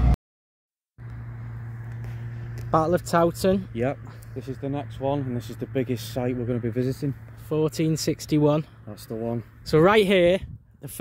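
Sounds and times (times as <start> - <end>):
car driving: 1.0 - 11.0.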